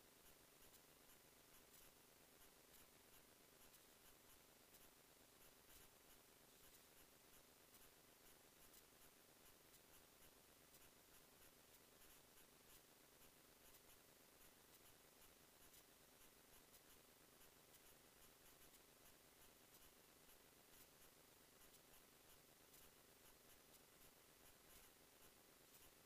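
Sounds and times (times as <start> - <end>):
faint steady hiss: 0.0 - 26.0
faint high ticks: 0.1 - 26.0.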